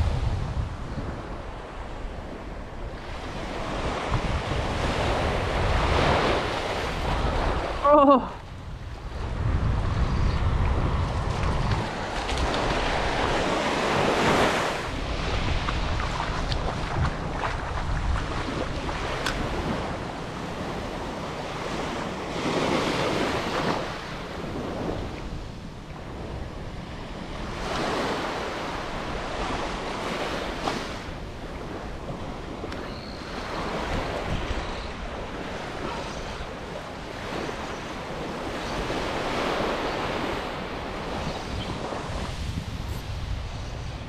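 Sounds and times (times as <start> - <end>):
small waves washing on sand: 0.0 - 44.0
wind rumbling on microphone: 0.0 - 44.0.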